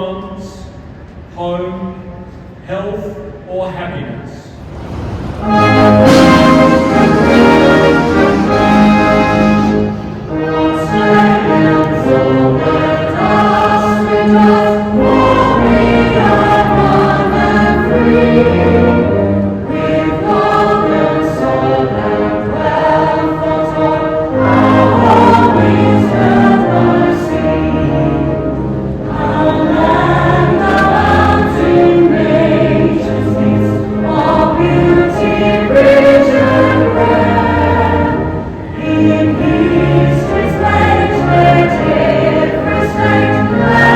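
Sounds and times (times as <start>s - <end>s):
low held accompanying notes: 0.0s - 43.9s
choir singing: 4.7s - 43.9s.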